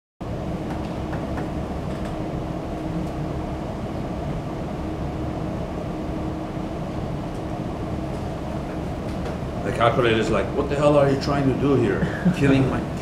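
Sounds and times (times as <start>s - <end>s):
low background hum: 0.2s - 13.0s.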